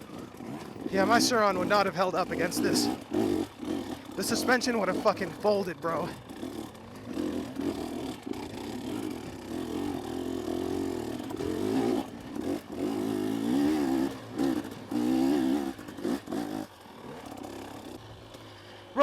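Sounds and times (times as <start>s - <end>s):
two-stroke dirt bike engine: 0.0s - 19.0s.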